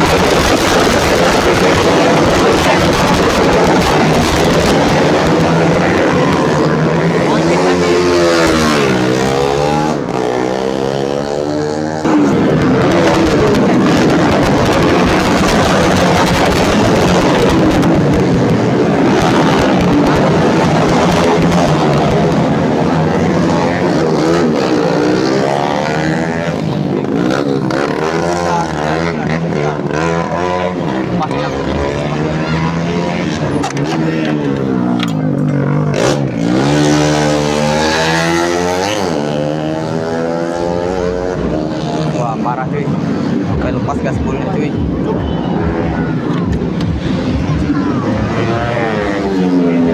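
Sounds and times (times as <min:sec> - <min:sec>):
racing motorcycles revving: 0:00.0 - 0:49.9.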